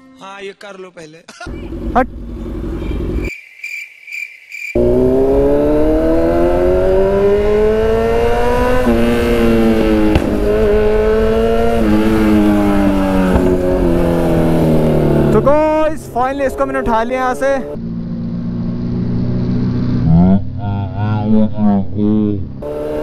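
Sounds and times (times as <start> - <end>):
motorcycle engine accelerating: 1.5 - 3.3, 4.8 - 23.0.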